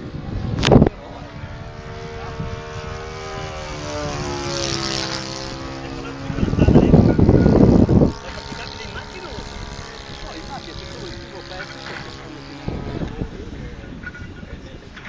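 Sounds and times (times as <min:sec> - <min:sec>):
model plane motor passing: 0:00.0 - 0:15.0.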